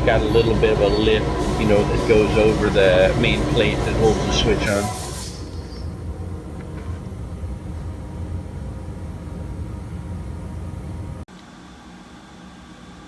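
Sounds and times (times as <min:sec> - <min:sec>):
machine tool humming: 0:00.0 - 0:10.5.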